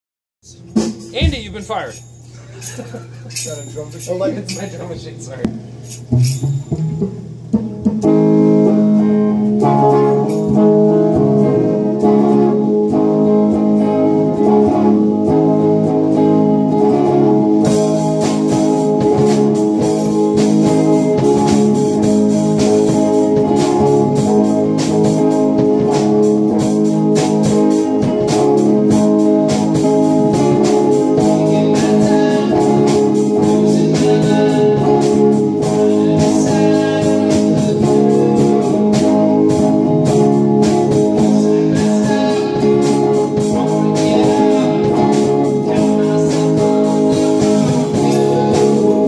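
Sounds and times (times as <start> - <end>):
drum machine beat: 0.4 - 8.7, 17.1 - 49.0
electric guitars playing chords: 0.4 - 49.0.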